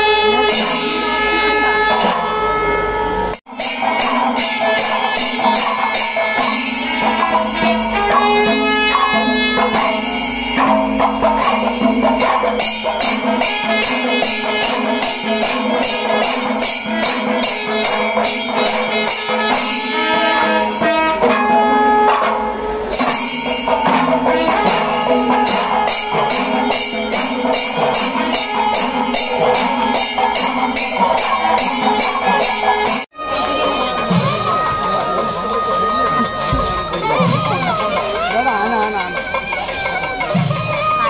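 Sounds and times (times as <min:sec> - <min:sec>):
cymbals clashing: 0:00.0 - 0:41.0
drums and other instruments: 0:00.0 - 0:41.0.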